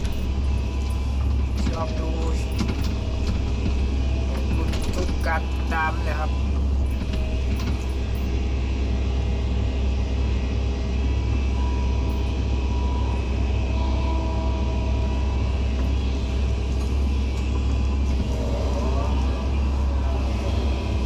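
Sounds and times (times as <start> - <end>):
excavator diesel engine rumbling: 0.0 - 21.0
faint whine: 0.0 - 21.0.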